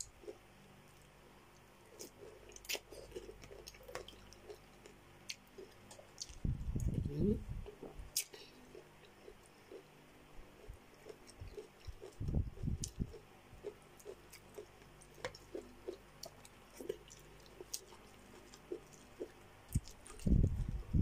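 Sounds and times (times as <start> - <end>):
chewing and mouth sounds: 0.0 - 21.0.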